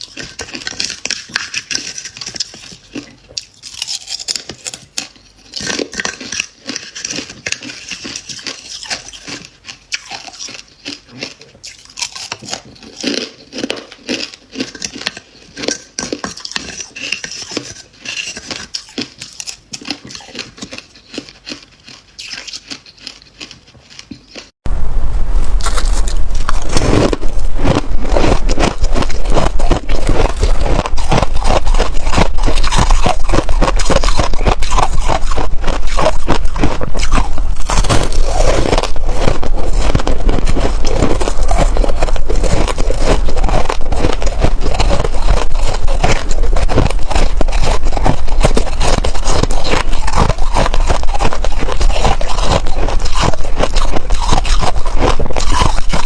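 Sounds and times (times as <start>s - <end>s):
frost being chewed and crunched: 0.0s - 24.6s, 25.5s - 56.0s.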